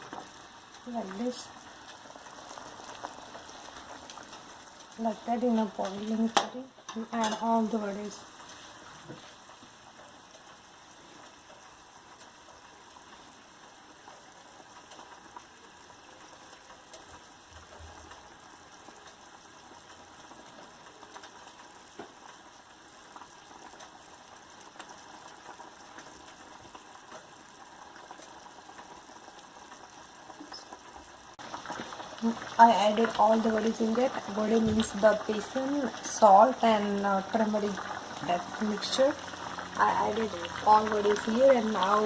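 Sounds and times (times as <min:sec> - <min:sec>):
curry bubbling in a pan: 0:00.0 - 0:42.0.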